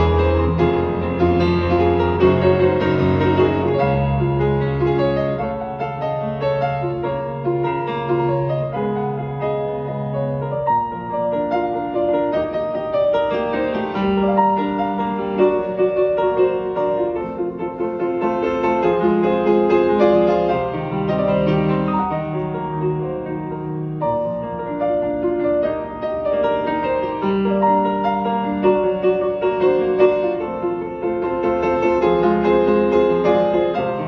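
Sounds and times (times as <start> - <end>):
grand piano solo: 0.0 - 34.0.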